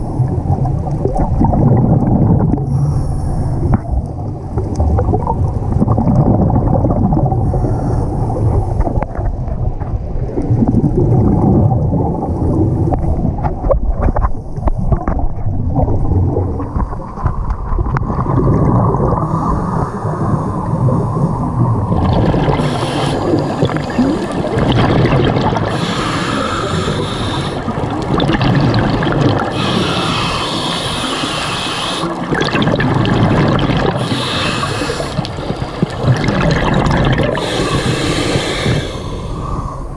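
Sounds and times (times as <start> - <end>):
underwater regulator bubbling: 0.0 - 39.9.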